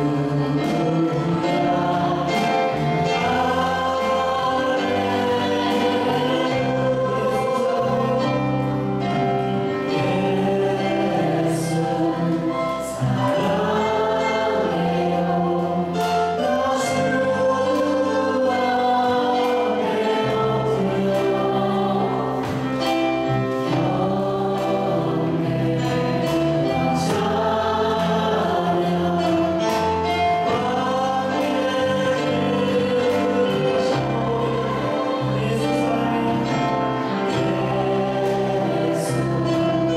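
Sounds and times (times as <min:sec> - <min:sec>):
instrumental accompaniment: 0:00.0 - 0:39.9
worship team singing: 0:00.0 - 0:39.9.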